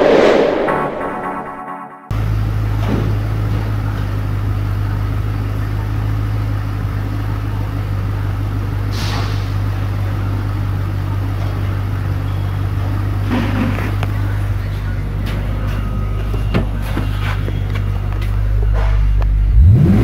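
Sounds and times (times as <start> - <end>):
car engine idling: 2.1 - 20.0.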